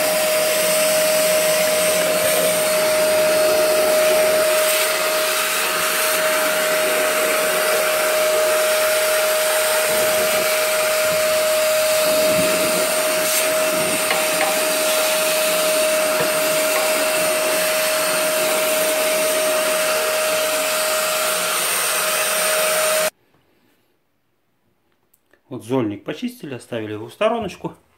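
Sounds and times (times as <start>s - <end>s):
vacuum whining: 0.0s - 23.1s.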